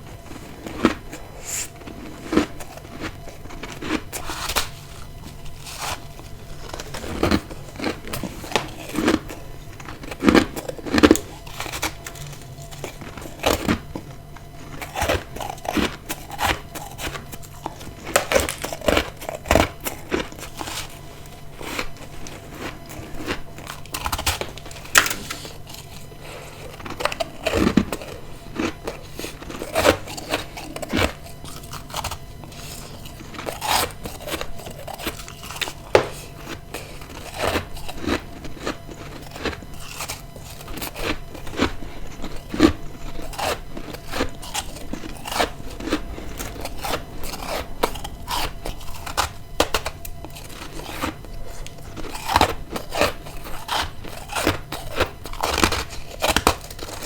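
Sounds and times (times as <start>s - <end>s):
ice crunching between teeth: 0.0s - 57.0s
steady low hum: 0.0s - 57.0s.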